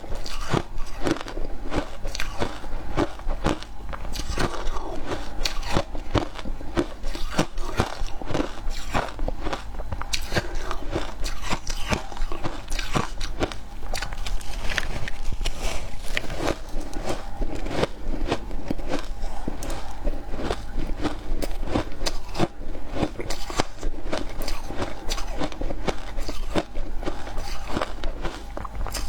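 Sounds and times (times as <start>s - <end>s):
crunching and chewing ice: 0.0s - 29.0s.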